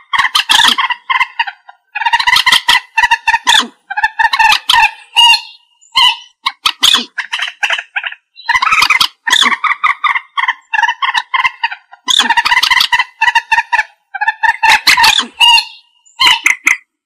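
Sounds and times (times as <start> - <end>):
moorhen calling: 0.0 - 17.0.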